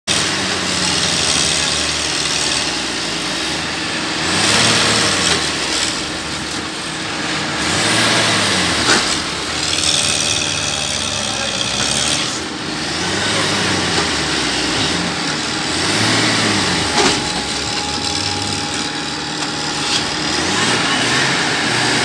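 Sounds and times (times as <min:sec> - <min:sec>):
tractor engine revving: 0:00.1 - 0:22.0.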